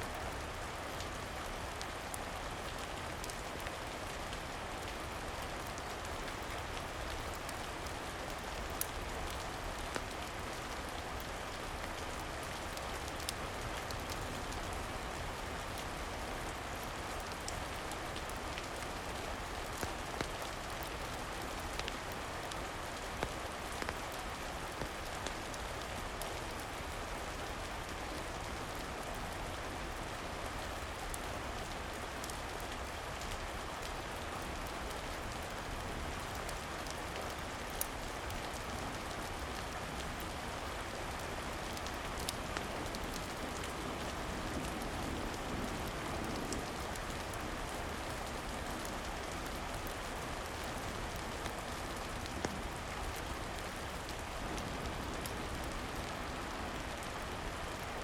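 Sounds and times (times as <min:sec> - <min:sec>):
steady rain falling: 0:00.0 - 0:58.0
sharp rain ticks: 0:00.1 - 0:58.0.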